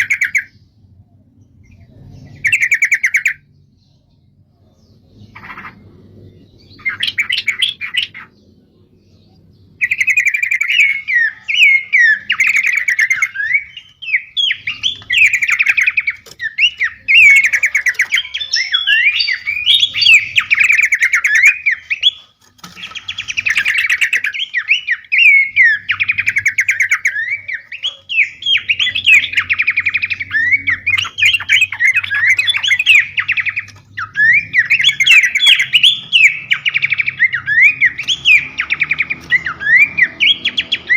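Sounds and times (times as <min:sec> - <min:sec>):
songbird chirps whistles and trills: 0:06.6 - 0:40.9.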